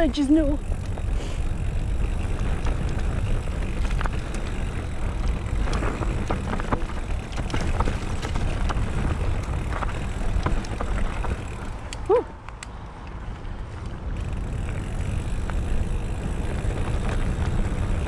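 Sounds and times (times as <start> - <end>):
bike tyres rumbling on dirt: 0.0 - 12.3, 13.2 - 18.0
bike clicks and rattles: 0.0 - 18.0.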